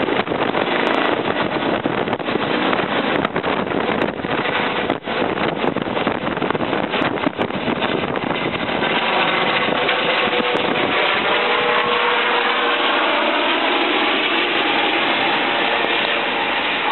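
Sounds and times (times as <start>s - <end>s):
helicopter flying overhead: 0.0s - 16.9s.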